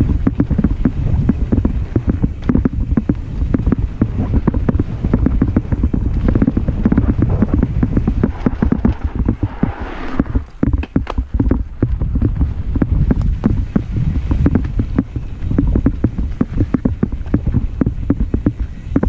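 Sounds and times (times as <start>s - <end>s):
bike rattling and clicking: 0.0s - 19.0s
tyres rumbling on dirt: 0.0s - 19.0s
wind buffeting microphone: 0.0s - 19.0s.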